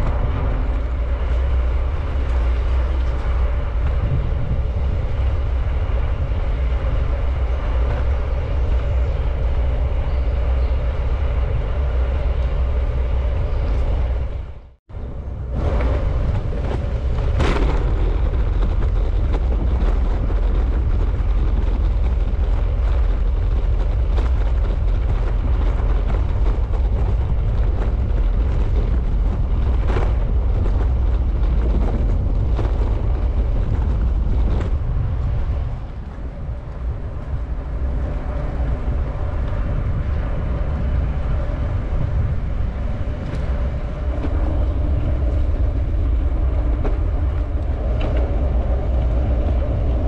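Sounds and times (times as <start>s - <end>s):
bicycle tyre road noise: 0.0s - 50.0s
wind rumbling over microphone: 0.0s - 50.0s.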